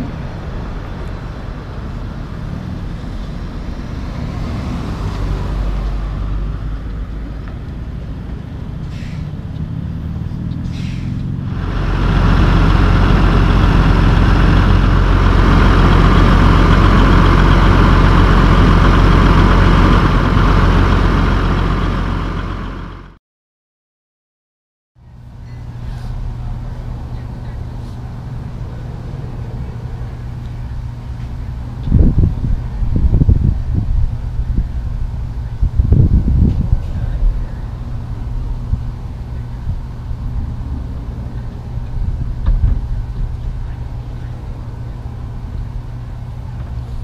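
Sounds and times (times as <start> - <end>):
distant diesel truck engine: 0.0 - 23.2, 25.0 - 47.0
loud diesel engine running: 0.0 - 23.2, 25.0 - 47.0
road noise: 0.0 - 23.2, 25.0 - 47.0.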